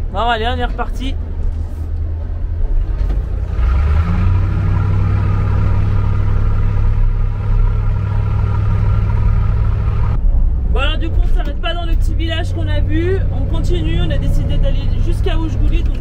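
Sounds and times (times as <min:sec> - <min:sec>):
diesel truck engine pulling away: 0:00.9 - 0:16.0.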